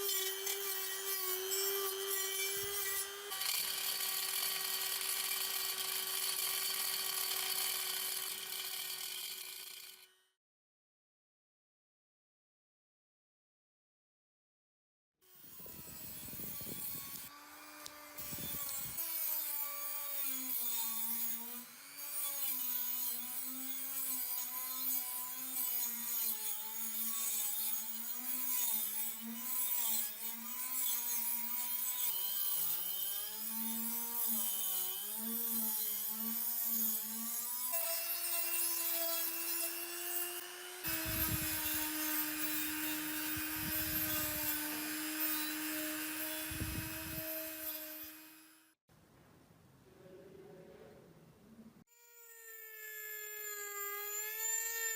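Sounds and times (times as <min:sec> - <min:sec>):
electric power tool motor: 0:00.0 - 0:10.2, 0:15.3 - 0:48.8, 0:51.9 - 0:54.9.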